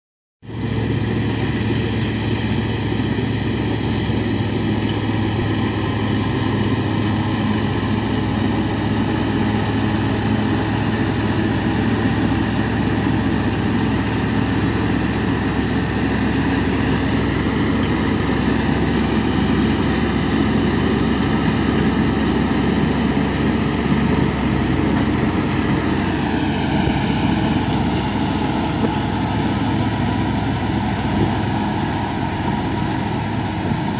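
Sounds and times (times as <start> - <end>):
tractor engine under load: 0.4 - 33.9.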